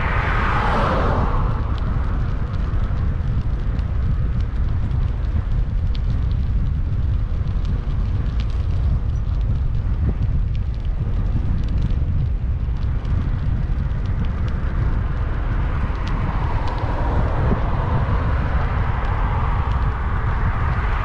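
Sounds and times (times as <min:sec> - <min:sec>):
bicycle ticks and rattles: 0:00.0 - 0:21.0
wind buffeting microphone: 0:00.0 - 0:21.0.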